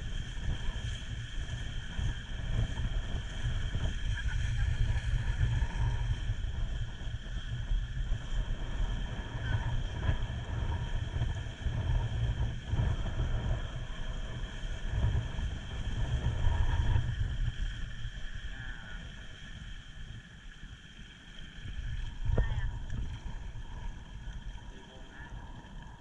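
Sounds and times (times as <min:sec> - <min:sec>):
wind buffeting microphone: 0:00.0 - 0:20.5, 0:21.4 - 0:26.0
steady high hum: 0:00.0 - 0:26.0.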